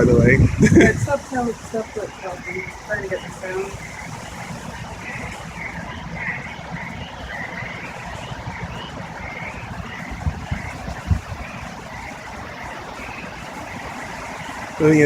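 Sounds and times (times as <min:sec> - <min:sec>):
wind buffeting microphone: 0:00.0 - 0:15.0
faint wavering whistles: 0:01.0 - 0:15.0.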